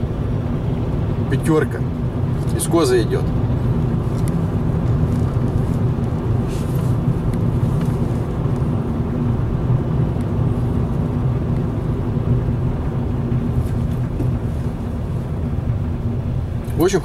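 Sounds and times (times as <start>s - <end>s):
car road rumble: 0.0s - 17.0s
faint engine hum: 0.0s - 17.0s.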